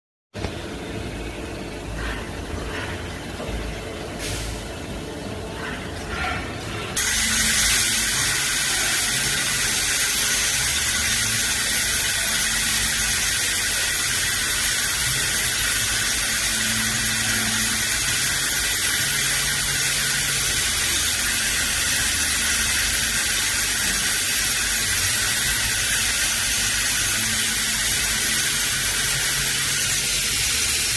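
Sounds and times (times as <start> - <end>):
machine high-pitched squeal: 5.8 - 30.9.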